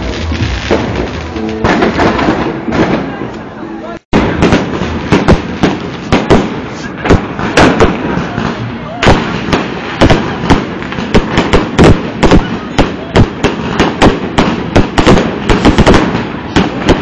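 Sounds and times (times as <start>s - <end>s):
fireworks exploding: 0.0s - 17.0s.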